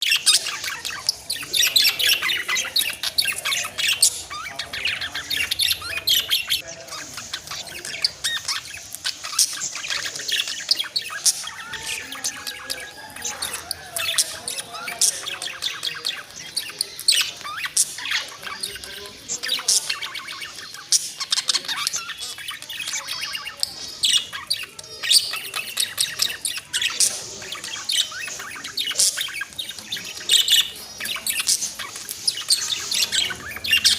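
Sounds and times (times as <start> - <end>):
budgerigars chattering: 0.0 - 33.9.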